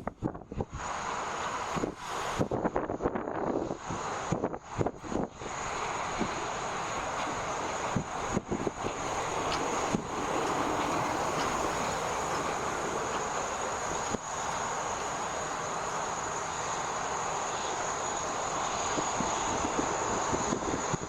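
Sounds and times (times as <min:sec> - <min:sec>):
jet engines rushing: 0:03.4 - 0:21.0.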